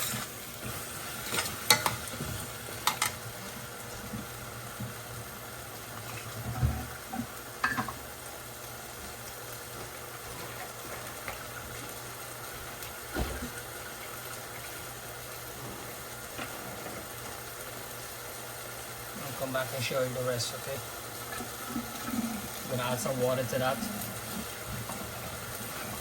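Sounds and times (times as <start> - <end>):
food sizzling in a frying pan: 0.0 - 26.0.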